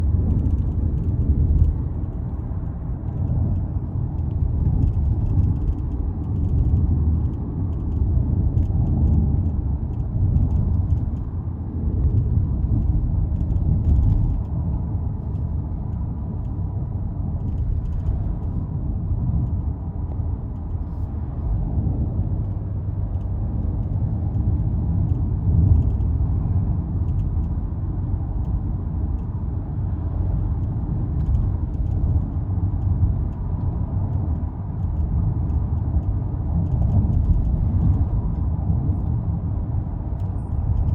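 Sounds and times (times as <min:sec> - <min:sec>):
car road rumble: 0:00.0 - 0:40.9.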